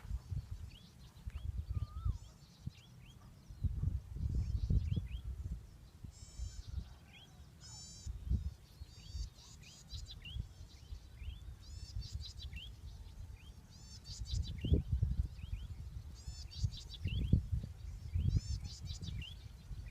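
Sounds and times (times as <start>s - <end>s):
songbird singing: 0.0s - 19.9s.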